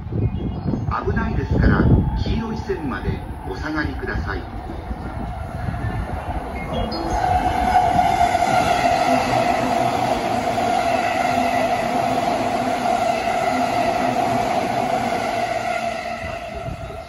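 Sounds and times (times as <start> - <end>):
train wheels rumbling: 1.0 - 17.0
electric train whine: 1.2 - 17.0.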